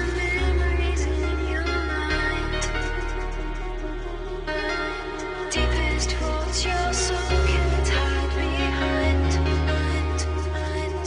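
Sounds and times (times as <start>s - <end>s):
slow sustained chords: 0.0s - 11.0s.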